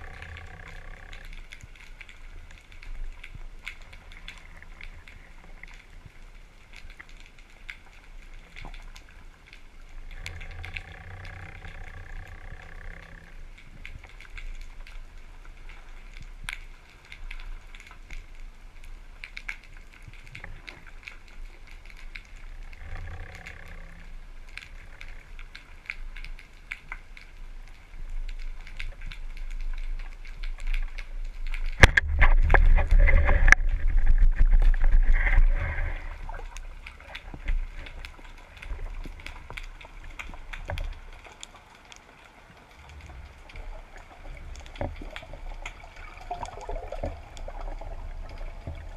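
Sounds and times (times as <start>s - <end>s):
low underwater rumble: 0.0s - 19.2s, 19.8s - 48.9s
clicks and crackles: 0.0s - 48.9s.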